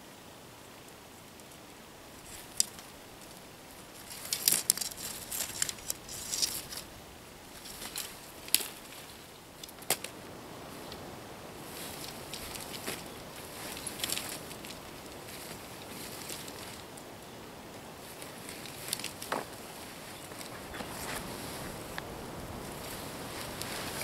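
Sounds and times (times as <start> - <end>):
nylon tent fabric rustling: 2.2 - 17.1, 17.9 - 24.0.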